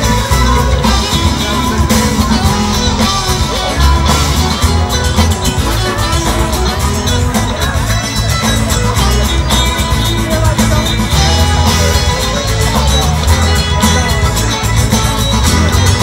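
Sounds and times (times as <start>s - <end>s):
acoustic guitar: 0.0s - 16.0s
bass guitar: 0.0s - 16.0s
drum kit: 0.0s - 16.0s
electric guitar: 0.0s - 16.0s.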